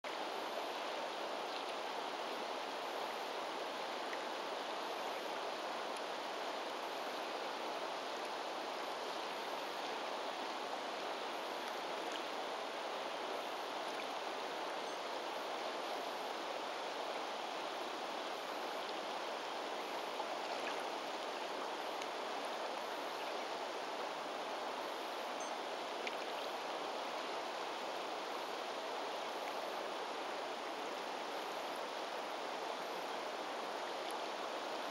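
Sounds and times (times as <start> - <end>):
river rushing over stones: 0.1 - 34.9.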